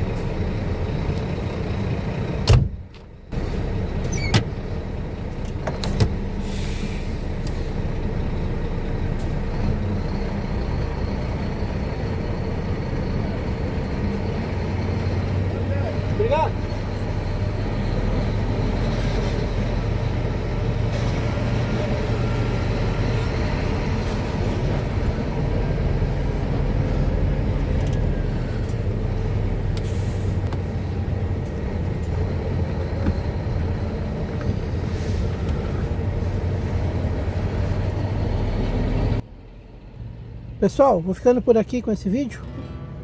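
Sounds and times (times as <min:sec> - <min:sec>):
road and tyre noise: 0:00.0 - 0:43.0
truck engine drone: 0:00.0 - 0:43.0.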